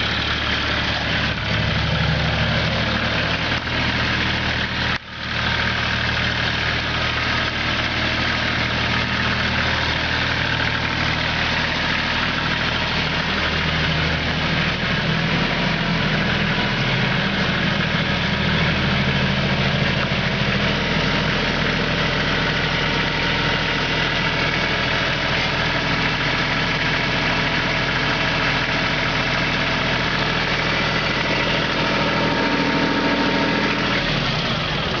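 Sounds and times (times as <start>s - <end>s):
diesel tractor engine idling: 0.0s - 35.0s.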